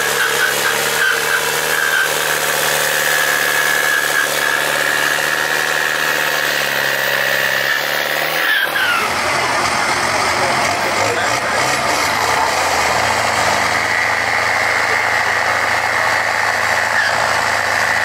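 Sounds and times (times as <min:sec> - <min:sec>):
tractor engine running high: 0:00.0 - 0:18.0.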